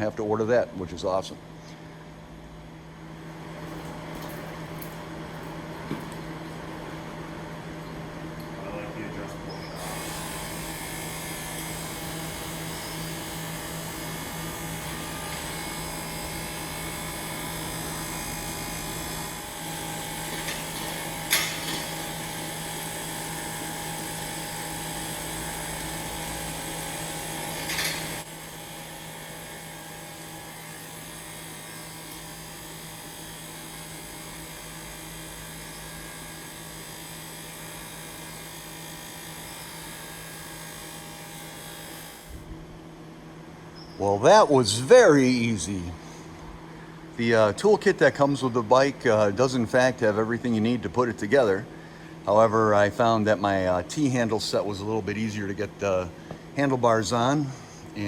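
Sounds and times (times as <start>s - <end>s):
steady hum with high tones: 0.0s - 58.0s.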